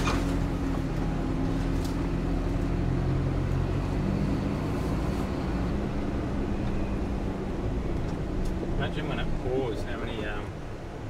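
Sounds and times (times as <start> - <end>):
truck diesel engine droning: 0.0 - 11.0.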